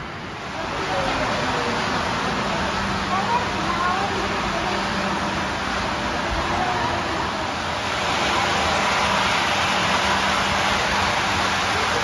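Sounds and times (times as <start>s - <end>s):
model train wheels rumbling on rails: 0.0s - 12.0s.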